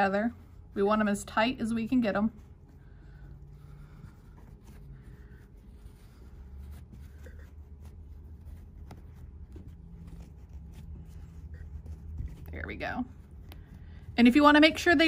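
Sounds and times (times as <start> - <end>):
fabric strips rustling: 0.0 - 15.0
low steady hum: 0.0 - 15.0.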